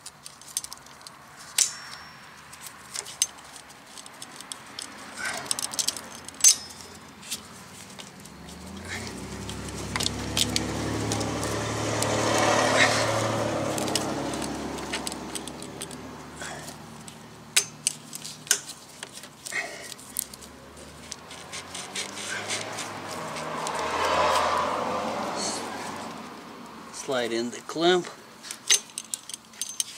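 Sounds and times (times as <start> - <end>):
passing vehicle engine hum: 1.1 - 27.5.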